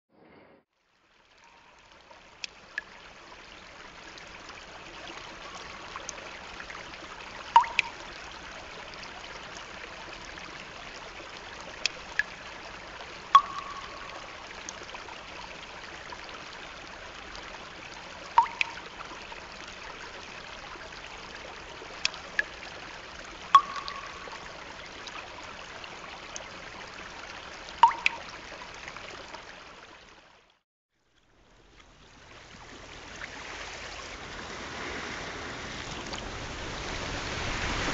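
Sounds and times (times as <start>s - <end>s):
trickling running water: 0.8s - 37.9s.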